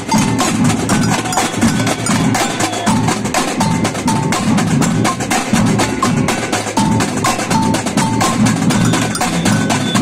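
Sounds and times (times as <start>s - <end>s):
deep bass drums: 0.0s - 10.0s
high ringing notes: 0.0s - 10.0s
samba drum ensemble: 0.0s - 10.0s.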